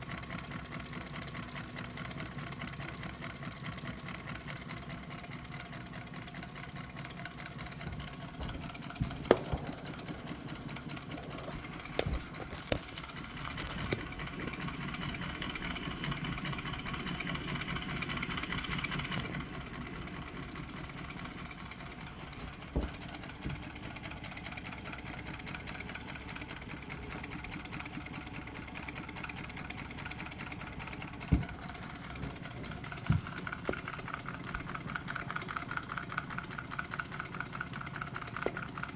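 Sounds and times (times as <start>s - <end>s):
engine mechanical clatter: 0.0s - 38.9s.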